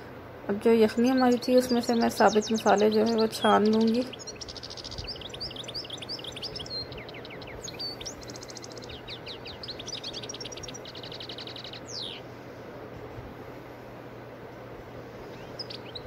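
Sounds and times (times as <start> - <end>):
faint steady hiss: 0.0 - 16.0
songbirds chirping: 0.0 - 16.0.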